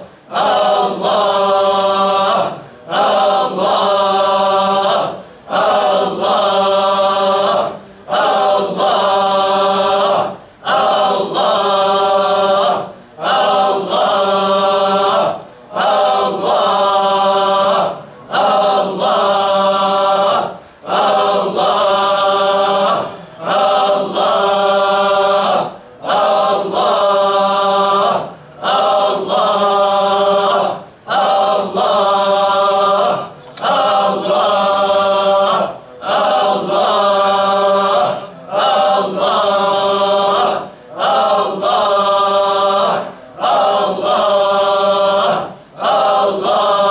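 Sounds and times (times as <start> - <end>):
men chanting together: 0.0 - 46.9.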